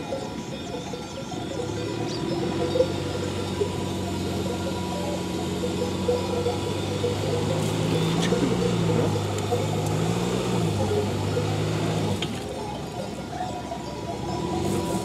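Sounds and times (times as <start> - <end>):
suv engine revving: 0.2 - 15.0.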